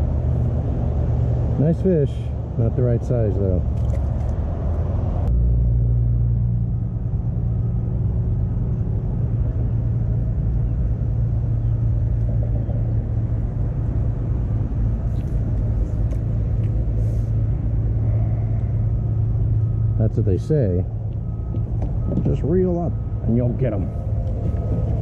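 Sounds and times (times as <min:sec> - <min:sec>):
engine rumble and hum: 0:00.0 - 0:25.0.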